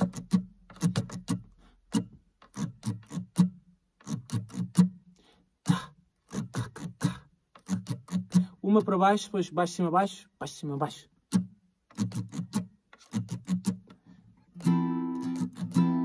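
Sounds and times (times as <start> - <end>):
acoustic guitar strumming: 0.0 - 5.0, 5.7 - 9.5, 11.3 - 16.0.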